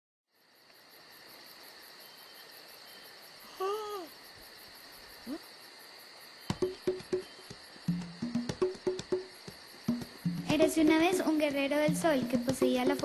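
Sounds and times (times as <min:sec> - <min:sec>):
crickets chirring: 0:00.3 - 0:13.0.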